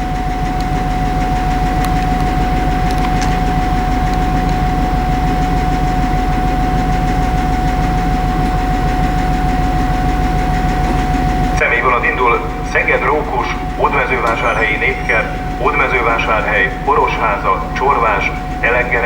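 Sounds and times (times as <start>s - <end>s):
faint clicks: 0.0s - 19.0s
high-pitched whine: 0.0s - 19.0s
train engine rumble: 0.0s - 19.0s.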